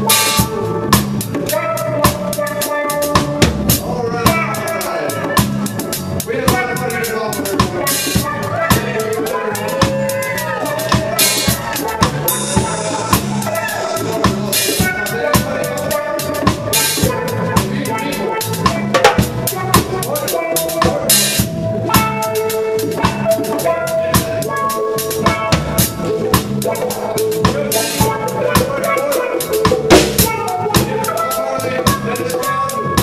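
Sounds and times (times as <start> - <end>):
drum kit groove: 0.0 - 33.0
reggae band playing: 0.0 - 33.0.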